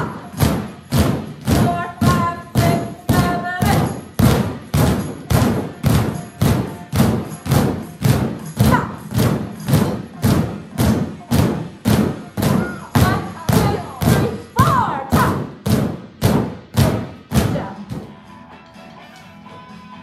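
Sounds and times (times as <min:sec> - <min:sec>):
drumsticks thudding on exercise balls: 0:00.0 - 0:18.1.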